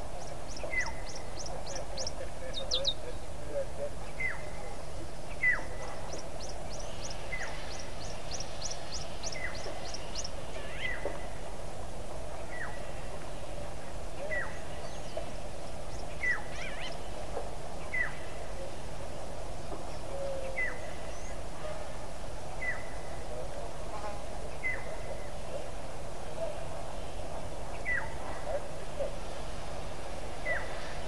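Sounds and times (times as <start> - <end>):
steady background hiss: 0.0 - 31.0.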